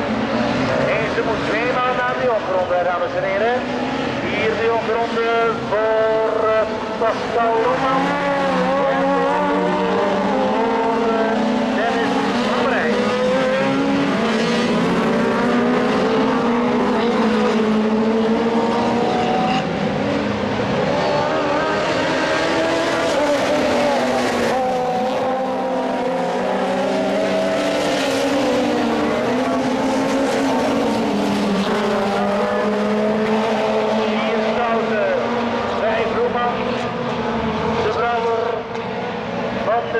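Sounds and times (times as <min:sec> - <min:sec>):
racing car engines revving: 0:00.0 - 0:39.9.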